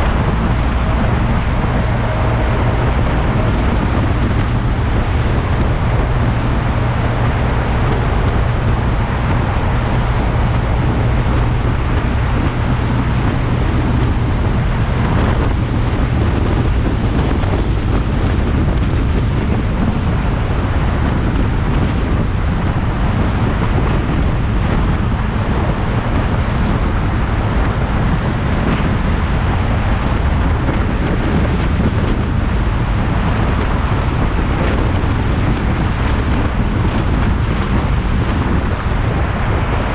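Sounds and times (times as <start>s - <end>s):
motorcycle engine and road noise: 0.0s - 39.9s
wind on microphone: 0.0s - 39.9s.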